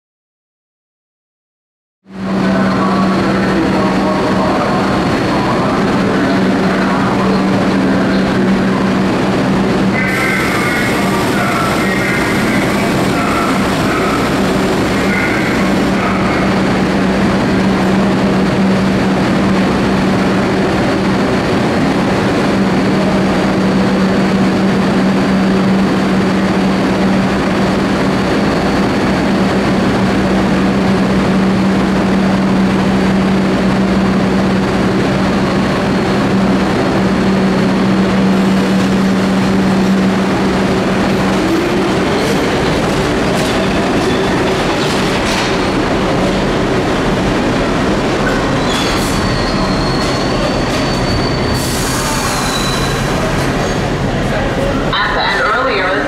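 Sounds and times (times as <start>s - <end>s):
train wheels rumbling on rail: 2.1s - 56.0s.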